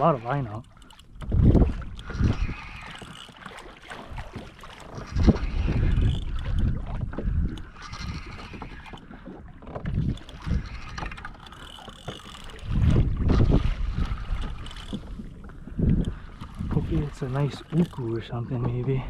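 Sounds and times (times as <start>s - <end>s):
water sloshing against hull: 0.0s - 19.0s
wind buffeting microphone: 0.0s - 19.0s.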